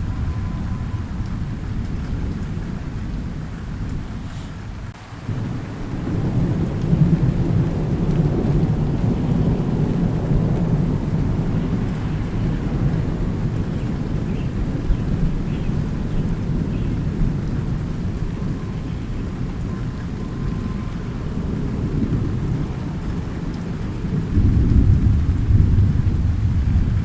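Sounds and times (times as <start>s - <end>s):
steady rain: 0.0s - 27.0s
thunder rumbling: 0.0s - 27.0s.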